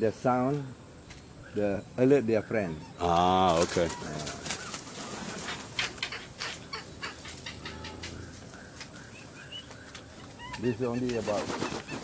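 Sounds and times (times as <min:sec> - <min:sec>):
flock of birds calling: 0:01.5 - 0:12.0.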